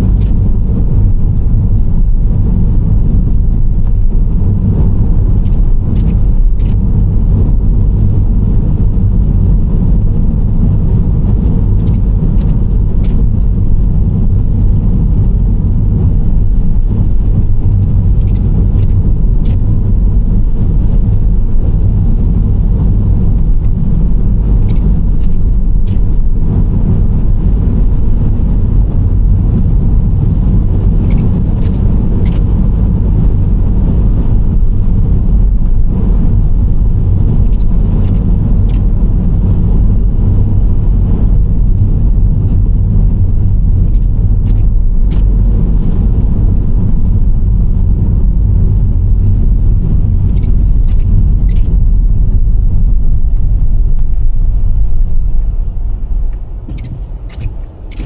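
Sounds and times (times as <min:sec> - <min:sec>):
minivan road and engine rumble: 0:00.0 - 0:58.0.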